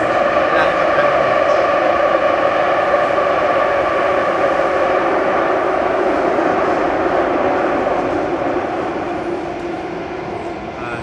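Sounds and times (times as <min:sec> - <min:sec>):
metro train running: 0:00.0 - 0:11.0.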